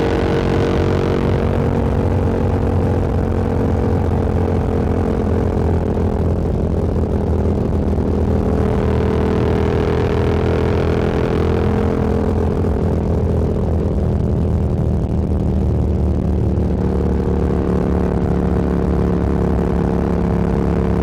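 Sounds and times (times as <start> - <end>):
motorcycle engine cruising: 0.0 - 21.0
wind noise: 0.0 - 21.0.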